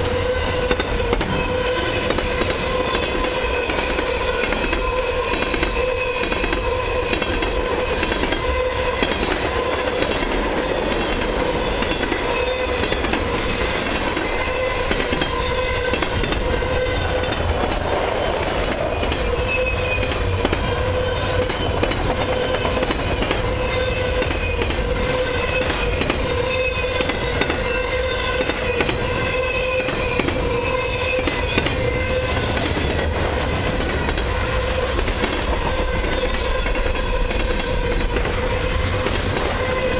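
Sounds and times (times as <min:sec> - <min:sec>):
train wheels clacking: 0:00.0 - 0:39.9.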